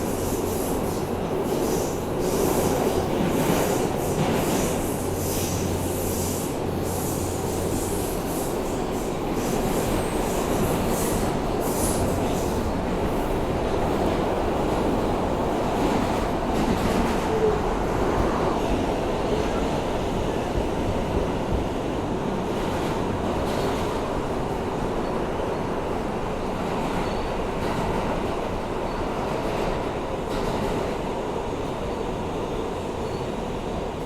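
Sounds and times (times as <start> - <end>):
rumble of wheels on rail: 0.0 - 34.0.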